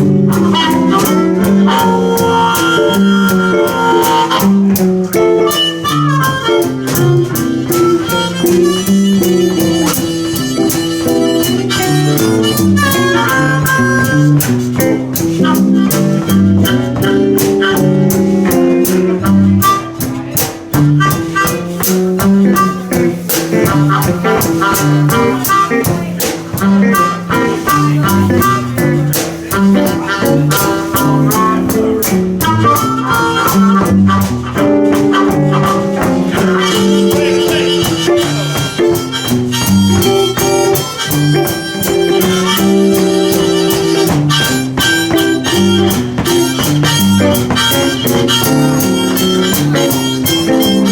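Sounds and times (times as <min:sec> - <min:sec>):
drum kit beat: 0:00.0 - 0:50.9
electric guitars: 0:00.0 - 0:50.9
harmonica soloing: 0:00.0 - 0:50.9.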